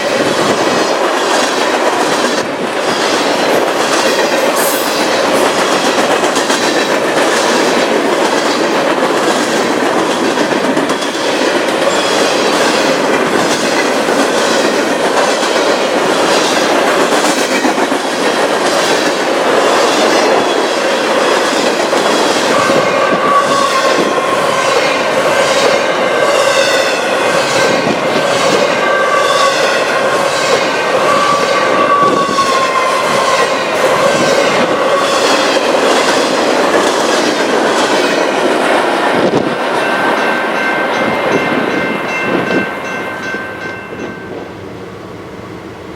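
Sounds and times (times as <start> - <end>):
train wheels clickety-clack: 0.0 - 44.5
wheels squealing on rails: 0.0 - 45.9.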